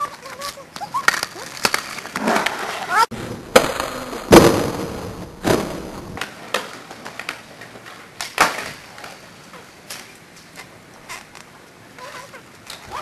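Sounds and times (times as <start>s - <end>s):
skateboard wheels rolling: 0.0s - 13.0s.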